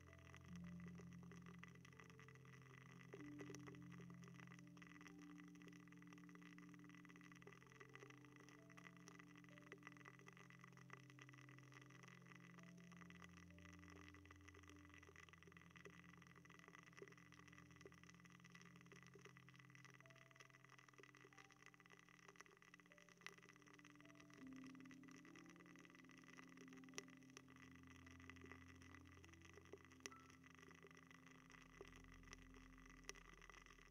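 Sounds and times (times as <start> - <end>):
low steady drone: 0.0 - 20.6, 21.2 - 33.9
crackling and scratching on microphone: 0.0 - 33.9.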